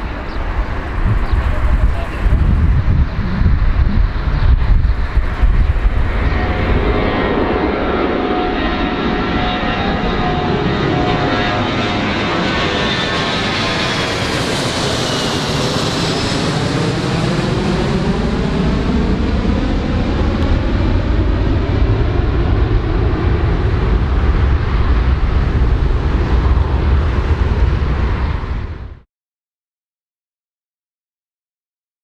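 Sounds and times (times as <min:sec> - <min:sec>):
aircraft engines passing close: 0:00.0 - 0:29.0.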